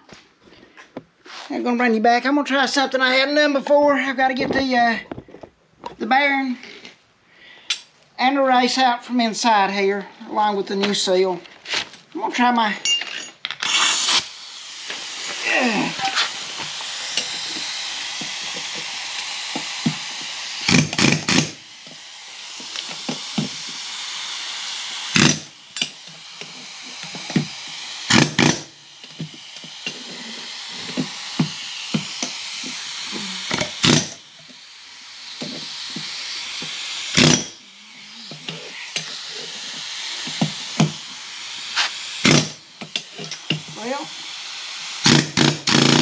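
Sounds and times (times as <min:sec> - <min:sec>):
steady hiss: 0:06.1 - 0:46.0.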